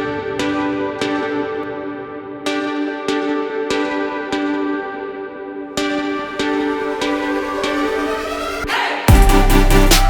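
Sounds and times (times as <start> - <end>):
calm slow electronic music: 0.0 - 10.0.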